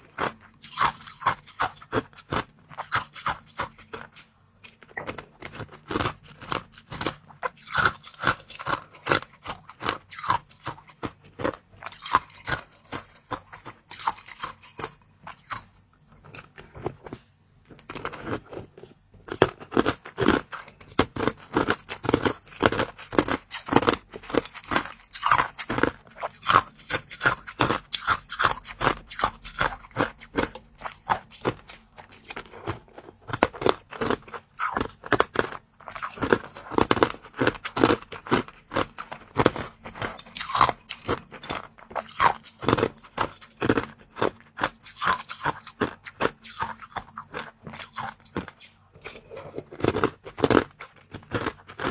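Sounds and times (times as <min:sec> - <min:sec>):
crisp food being chewed: 0:00.0 - 0:51.9.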